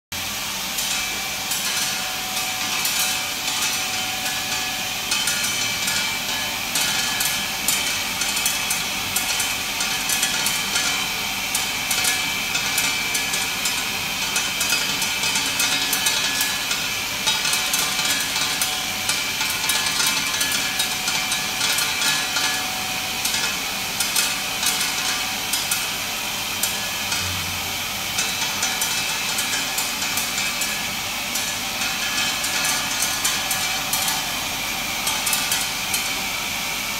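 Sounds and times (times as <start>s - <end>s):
machine hum: 0.2s - 36.9s
tablets clattering through machine: 0.8s - 27.2s, 28.1s - 36.2s.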